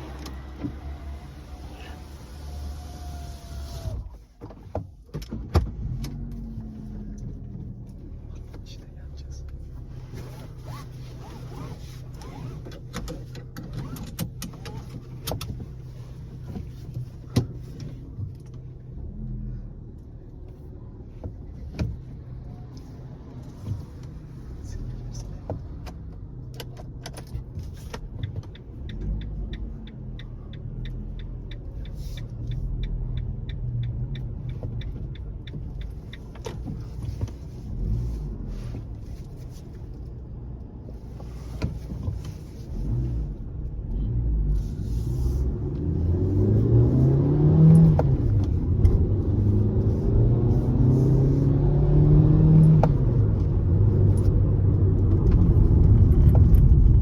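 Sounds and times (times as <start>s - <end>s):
van engine running: 0.0s - 57.0s.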